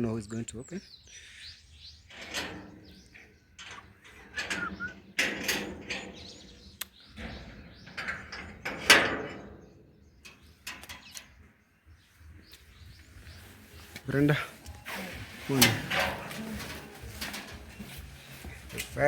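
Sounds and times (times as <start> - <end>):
birds chirping: 0.0 - 19.0
gate rattling and scraping: 1.9 - 11.5, 13.3 - 19.0.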